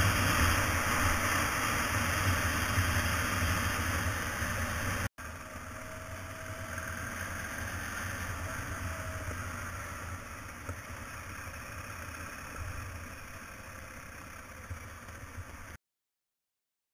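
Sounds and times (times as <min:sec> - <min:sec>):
motorcycle engine running: 0:00.0 - 0:15.8
road and wind noise: 0:00.0 - 0:15.8.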